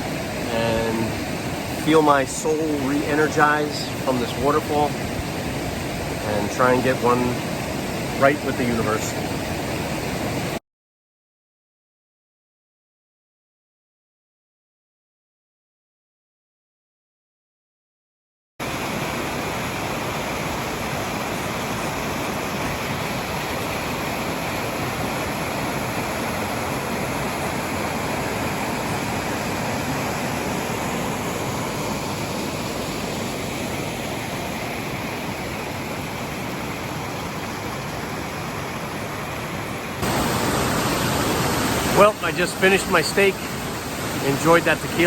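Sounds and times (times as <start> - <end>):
waterfall roaring: 0.0 - 10.5, 18.6 - 45.0.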